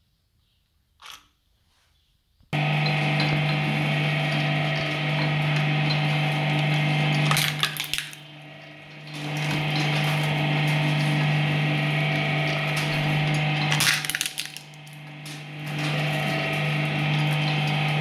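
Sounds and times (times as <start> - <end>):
shredder motor hum: 2.6 - 18.0.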